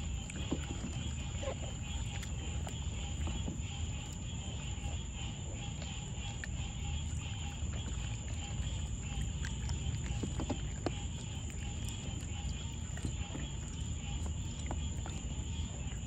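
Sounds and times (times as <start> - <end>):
night insects chirring: 0.0 - 16.0
small water splashes: 0.0 - 16.0.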